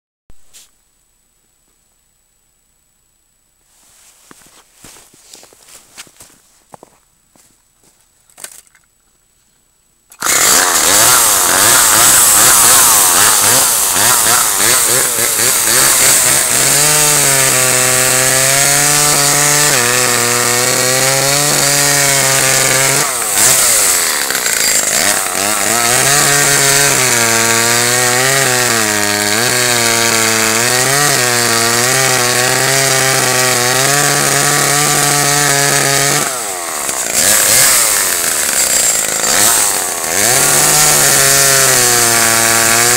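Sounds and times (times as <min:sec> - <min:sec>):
chainsaw cutting logs: 0:04.3 - 0:07.5, 0:10.1 - 0:42.9.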